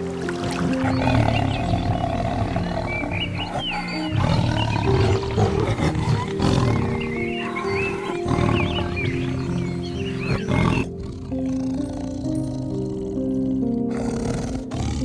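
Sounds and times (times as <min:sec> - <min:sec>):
soft piano and guitar music: 0:00.0 - 0:15.0
large animal growling: 0:00.4 - 0:15.0.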